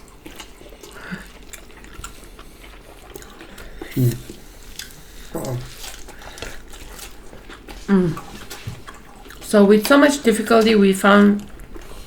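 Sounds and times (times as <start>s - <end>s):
wet chewing and mouth sounds: 0.0s - 12.0s.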